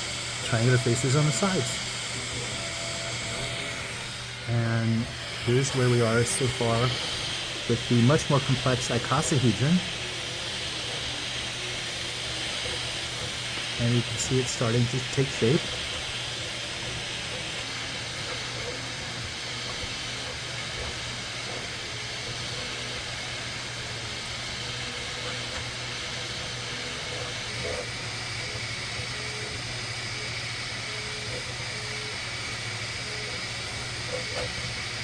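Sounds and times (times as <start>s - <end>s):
fan hiss and hum: 0.0s - 35.0s
stepper motor whining: 0.0s - 35.0s.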